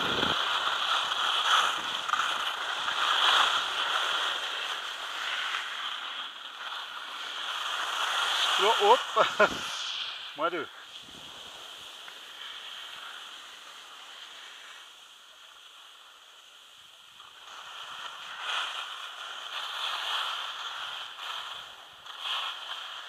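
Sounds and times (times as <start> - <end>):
skis scraping over snow: 0.0 - 23.0.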